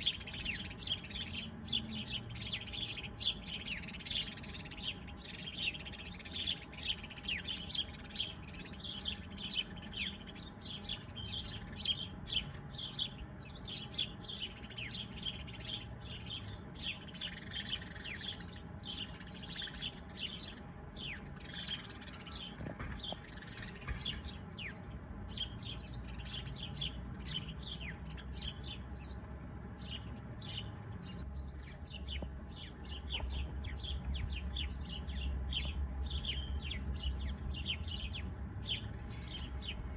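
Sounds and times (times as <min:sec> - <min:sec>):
low background rumble: 0:00.0 - 0:39.9
songbirds chirping chorus: 0:00.0 - 0:39.9.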